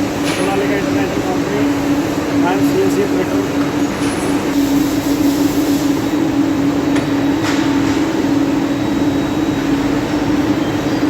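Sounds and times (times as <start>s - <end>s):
lathe mechanical hum: 0.0s - 11.0s.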